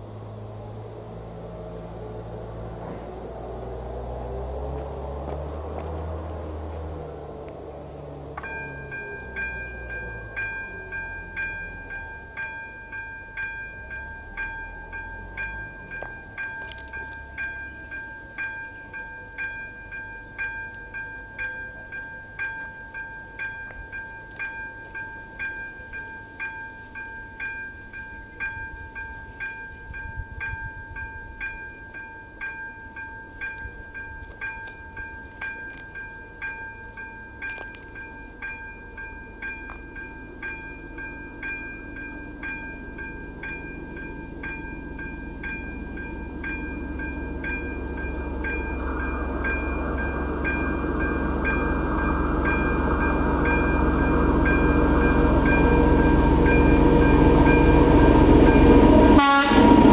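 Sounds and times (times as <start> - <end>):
level crossing warning bell: 7.8 - 59.9.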